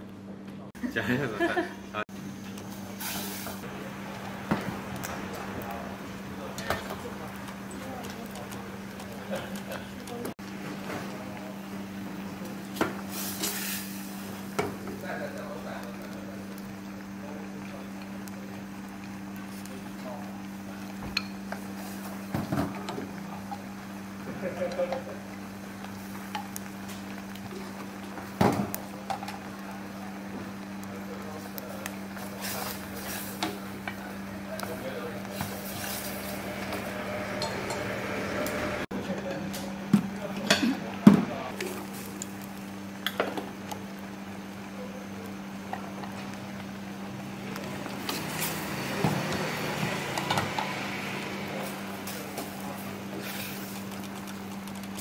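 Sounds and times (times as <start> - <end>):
gas burner hum with hiss: 0.0 - 55.0.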